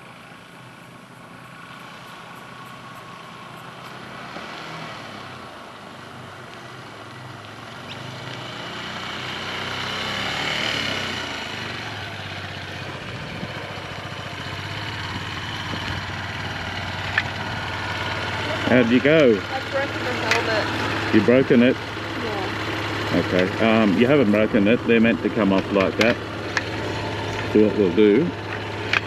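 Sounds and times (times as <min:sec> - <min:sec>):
motorcycle engine approaching: 0:00.0 - 0:29.0.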